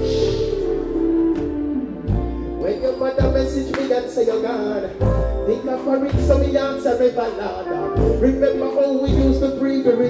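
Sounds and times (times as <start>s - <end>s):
music with deep bass notes: 0.0s - 10.0s.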